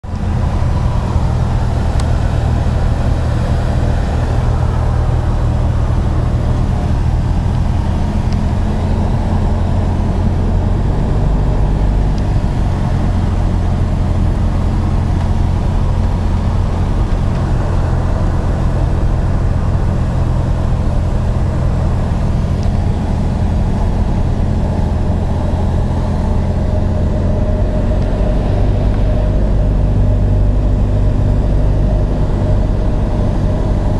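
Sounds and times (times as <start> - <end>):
airplane engine and propeller droning: 0.0 - 33.9.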